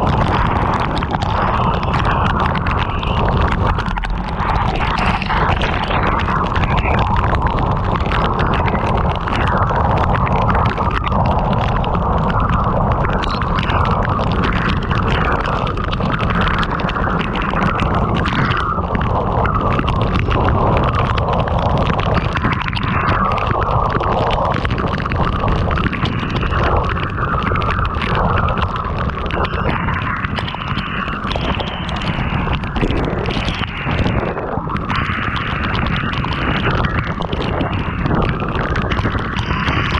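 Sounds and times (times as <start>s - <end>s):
heavy rain pelting a car: 0.0s - 39.9s
wind rumble on microphone: 0.0s - 39.9s.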